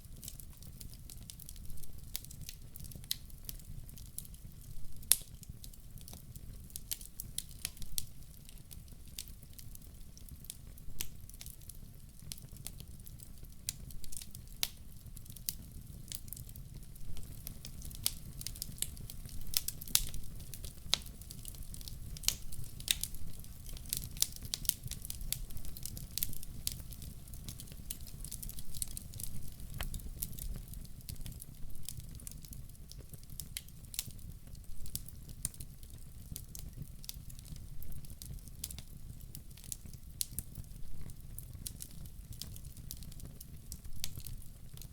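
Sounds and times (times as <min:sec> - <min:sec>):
low rumble of burning: 0:00.0 - 0:44.9
wood fire crackling: 0:00.0 - 0:44.9.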